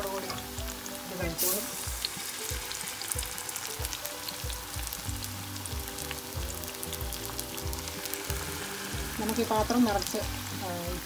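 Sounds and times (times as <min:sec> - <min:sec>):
batter strips deep-frying in oil: 0:00.0 - 0:11.0.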